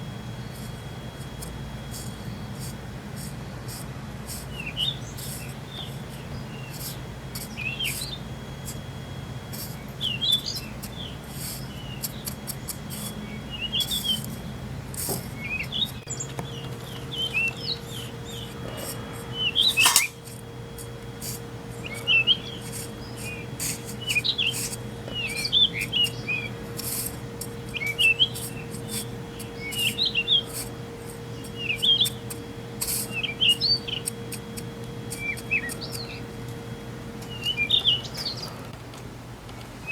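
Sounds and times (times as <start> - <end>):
steady low hum: 0.0 - 39.9
small birds chirping: 0.3 - 38.6.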